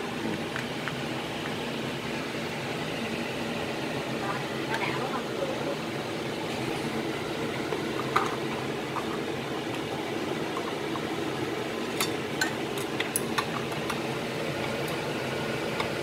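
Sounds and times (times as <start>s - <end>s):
fan-like hum: 0.0s - 16.0s.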